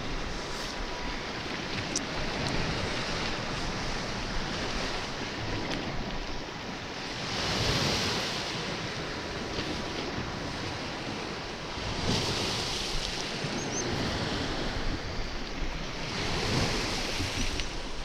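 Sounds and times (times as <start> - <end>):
sea waves washing: 0.0 - 18.0
wind noise on microphone: 0.0 - 18.0.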